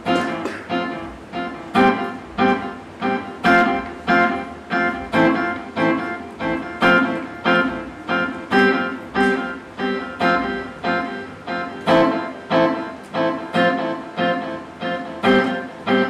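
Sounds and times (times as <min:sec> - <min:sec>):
guitar picking chords: 0:00.0 - 0:16.0.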